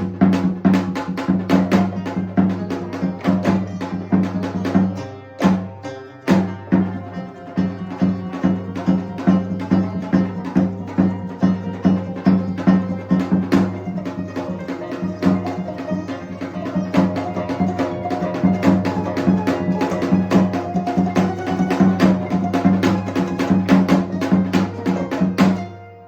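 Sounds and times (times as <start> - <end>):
percussion ensemble strikes: 0.0 - 25.8.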